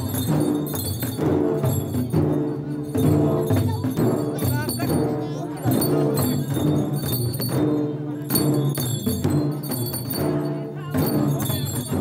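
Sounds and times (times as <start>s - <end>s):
barrel drums beating: 0.0s - 12.0s
metallic jingling: 0.0s - 12.0s.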